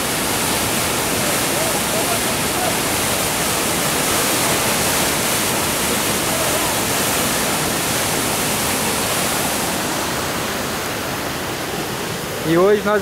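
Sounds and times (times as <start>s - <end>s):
river rushing through rapids: 0.0s - 13.0s.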